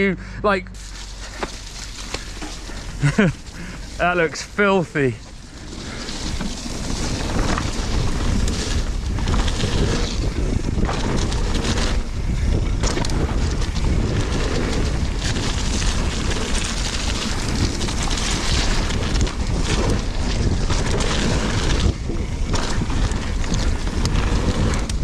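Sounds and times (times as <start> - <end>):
bike clattering over bumps: 0.8 - 25.0
tyre rumble: 0.8 - 25.0
wind rushing over microphone: 0.8 - 25.0.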